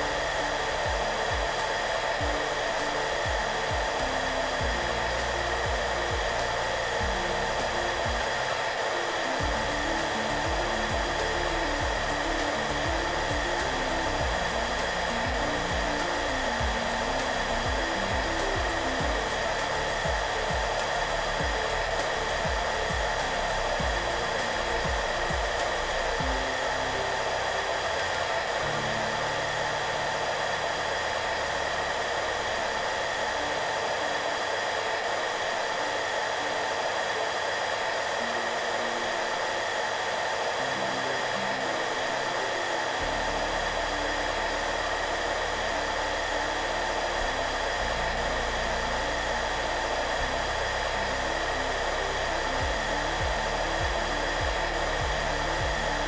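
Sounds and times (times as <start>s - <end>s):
hair dryer running: 0.0s - 56.0s
soft background music: 0.0s - 56.0s.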